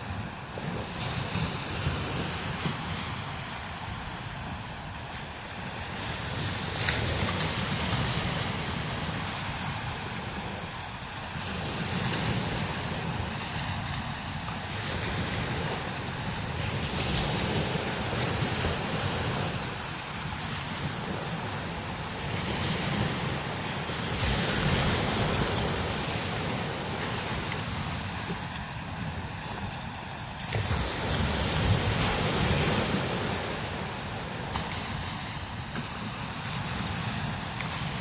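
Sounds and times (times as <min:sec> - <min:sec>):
strong gusty wind: 0:00.0 - 0:38.0.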